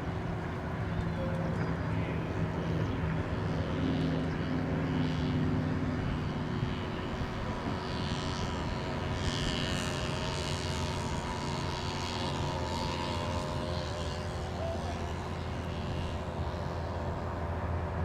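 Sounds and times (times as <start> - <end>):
model boat motors humming: 0.0 - 18.0.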